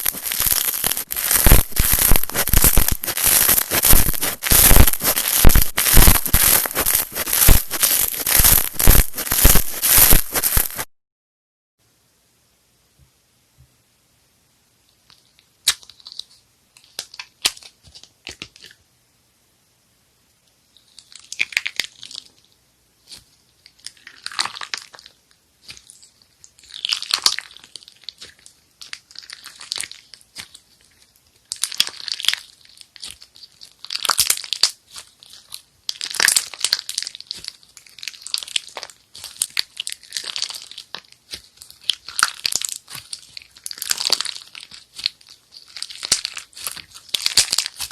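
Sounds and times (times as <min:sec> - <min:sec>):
slime crackling and popping: 0:00.0 - 0:10.9, 0:15.6 - 0:18.8, 0:20.9 - 0:47.9.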